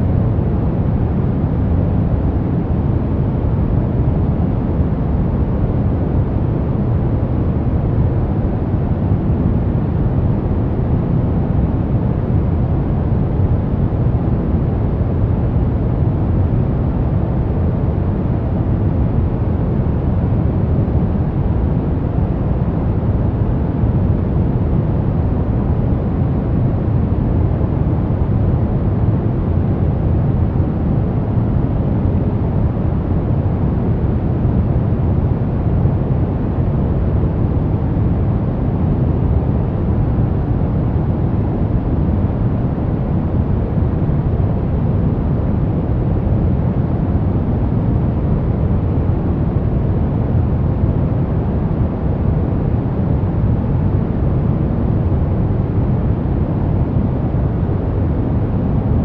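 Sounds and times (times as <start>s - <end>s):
deep white noise hiss: 0.0s - 59.0s.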